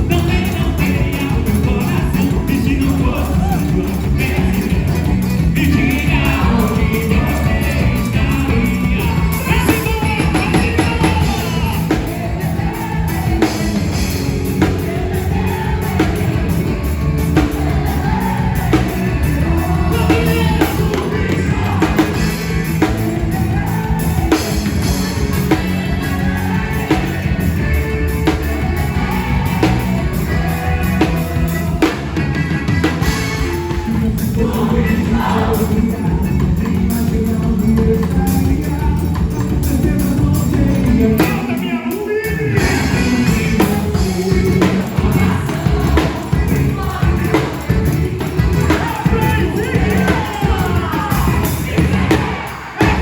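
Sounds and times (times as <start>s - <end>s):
bass notes: 0.0s - 53.0s
drum kit beat: 0.0s - 53.0s
person singing: 0.0s - 53.0s.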